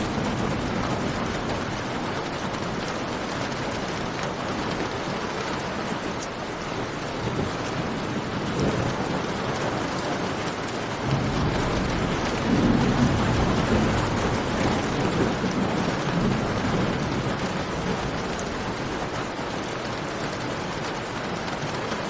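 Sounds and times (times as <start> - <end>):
heavy rain in a cave: 0.0 - 22.0.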